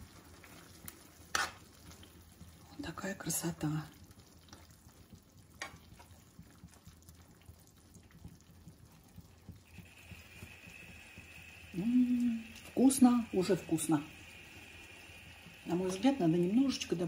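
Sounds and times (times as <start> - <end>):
sauce simmering and crackling: 0.0 - 17.0.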